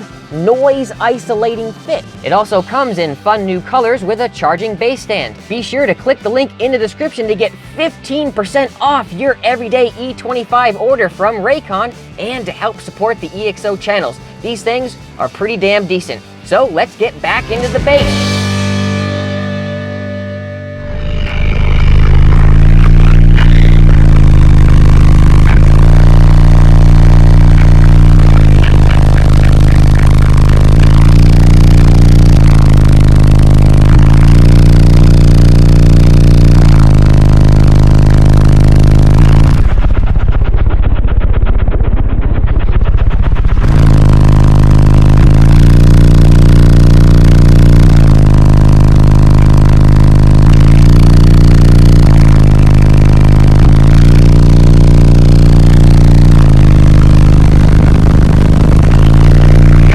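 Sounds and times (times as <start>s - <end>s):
loud bass-heavy car music: 0.0s - 59.9s.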